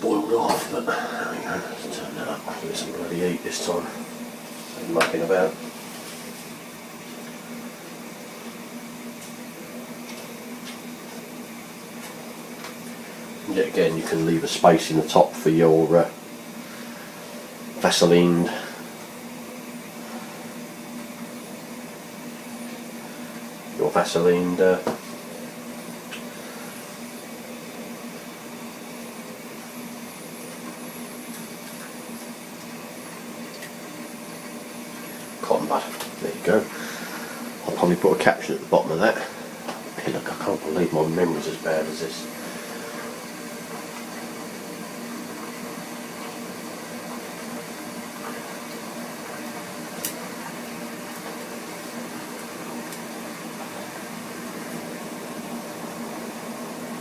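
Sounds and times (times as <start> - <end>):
gas burner hissing: 0.0 - 57.0
water simmering: 0.0 - 57.0.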